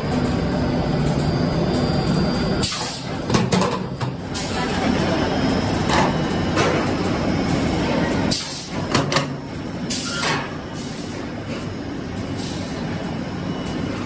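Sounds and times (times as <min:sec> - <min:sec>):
extrusion machinery running: 0:00.0 - 0:14.0.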